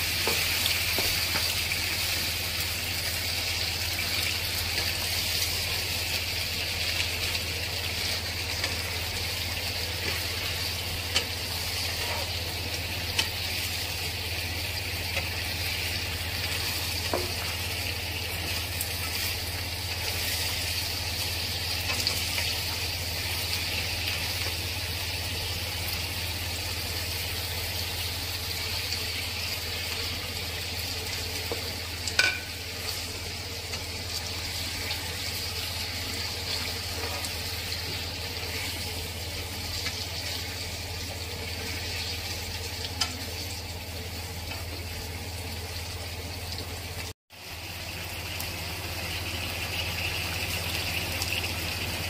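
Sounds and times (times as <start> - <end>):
food sizzling in a wok: 0.0 - 52.0.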